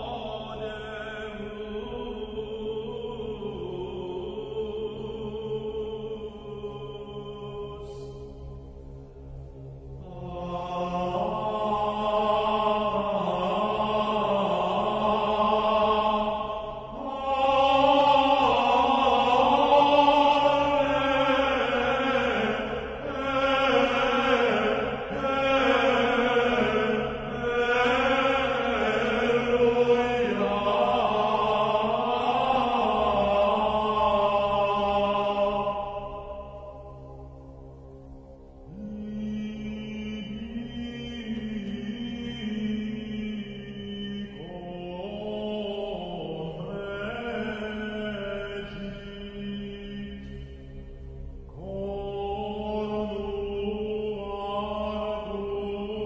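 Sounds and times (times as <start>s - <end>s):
slow chant-like singing: 0.0s - 56.0s
steady low drone: 0.0s - 56.0s.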